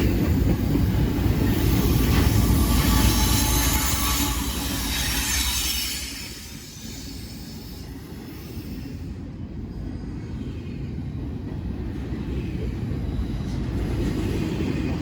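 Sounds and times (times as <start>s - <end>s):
freight train cars rolling on rails: 0.0s - 15.0s.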